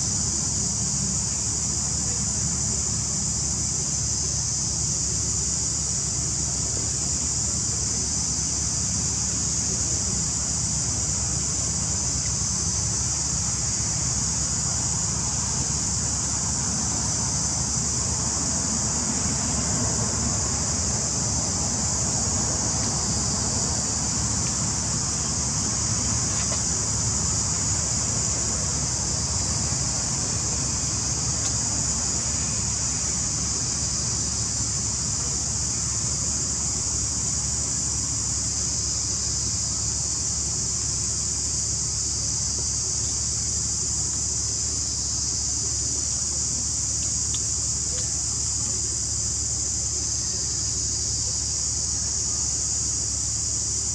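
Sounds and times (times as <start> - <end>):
constant high hiss: 0.0 - 53.9.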